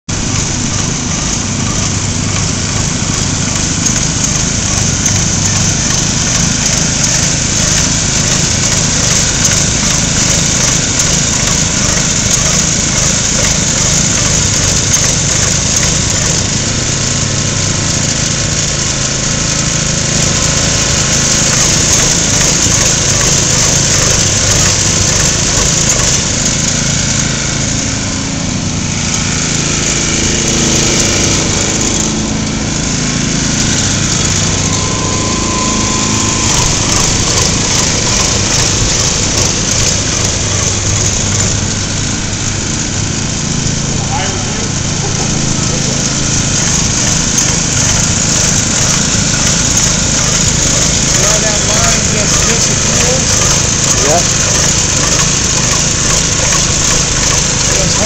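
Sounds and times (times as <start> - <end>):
small gasoline engine running: 0.0 - 58.0.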